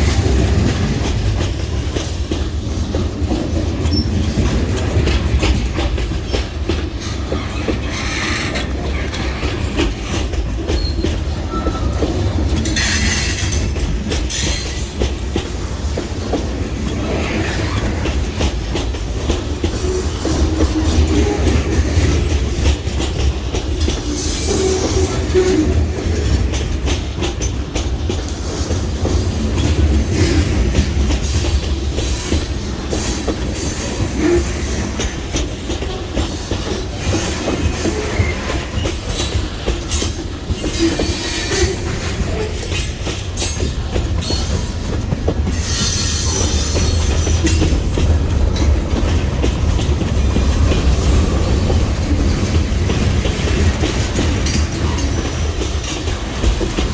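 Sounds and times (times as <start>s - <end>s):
freight train rumbling: 0.0s - 56.9s
wheels clicking over rail joints: 0.0s - 56.9s.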